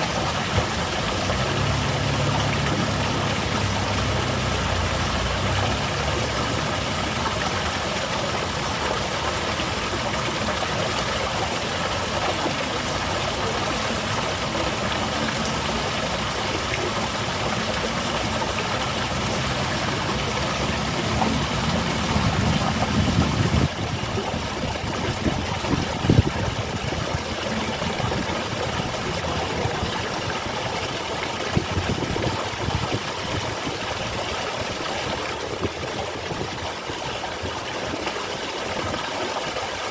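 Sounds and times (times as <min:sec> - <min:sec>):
garden waterfall splashing: 0:00.0 - 0:39.9.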